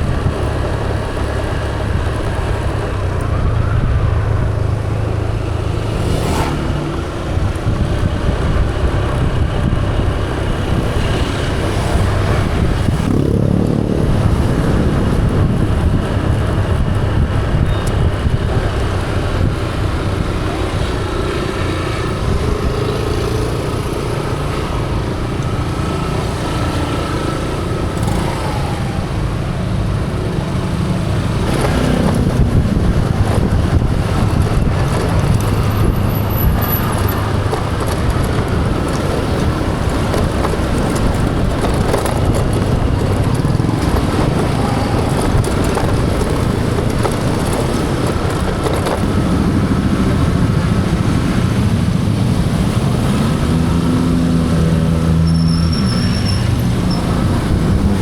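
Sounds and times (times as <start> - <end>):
motor scooter engine: 0.0 - 58.0
road noise rushing: 0.0 - 58.0.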